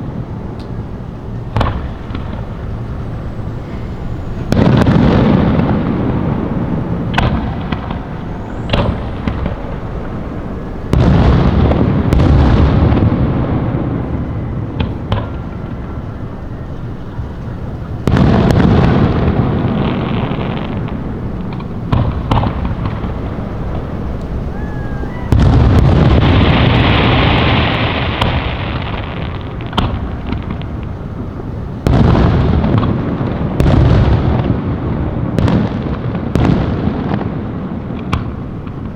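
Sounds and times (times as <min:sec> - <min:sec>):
fireworks booming: 0:00.0 - 0:38.9
hissing crackle: 0:00.0 - 0:38.9
fireworks popping and cracking: 0:01.5 - 0:38.9.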